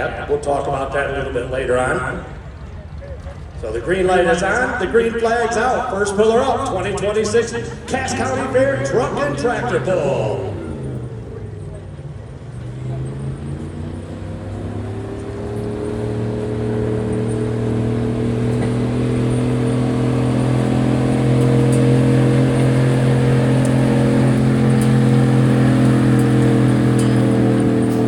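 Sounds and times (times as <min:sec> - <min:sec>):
engine at full throttle: 0:00.0 - 0:28.0.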